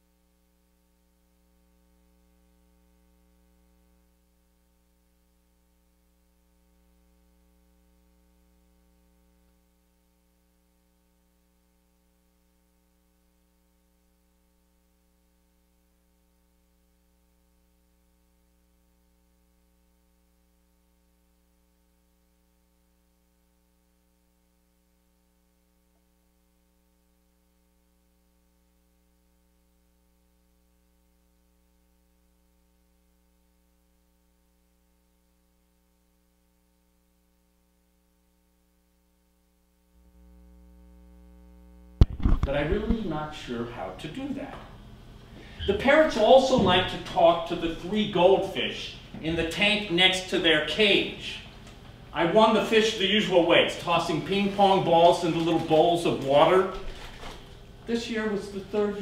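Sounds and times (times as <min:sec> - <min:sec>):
faint steady hum and hiss: 0:00.0 - 0:59.0.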